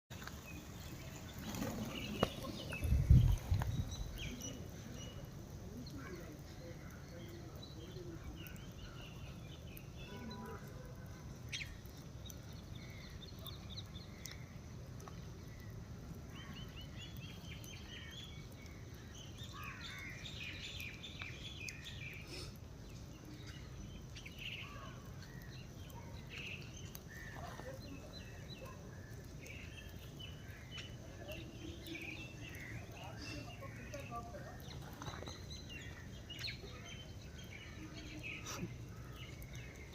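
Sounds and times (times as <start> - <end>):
outdoor background noise: 0.1 - 39.9.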